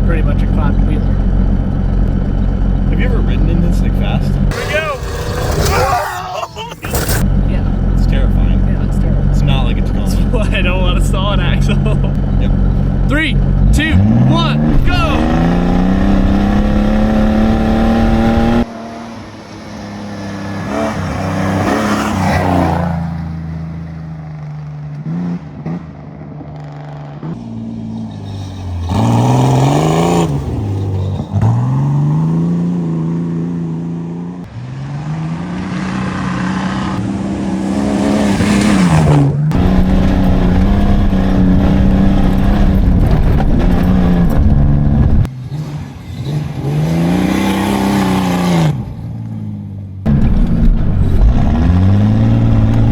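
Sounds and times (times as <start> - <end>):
truck engine revving: 0.0 - 49.2, 50.1 - 52.9.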